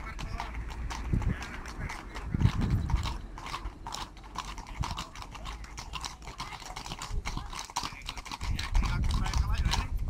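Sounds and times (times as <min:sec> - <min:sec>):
horse hooves on asphalt: 0:00.0 - 0:10.0.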